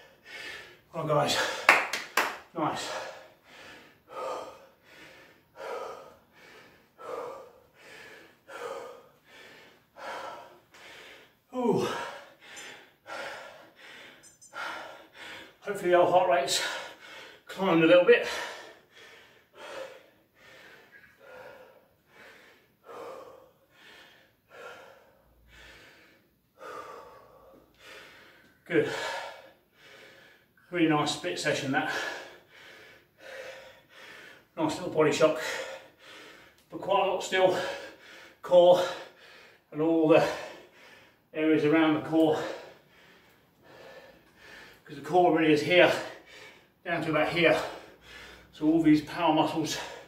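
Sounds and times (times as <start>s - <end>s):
man breathing heavily: 0.0s - 50.0s.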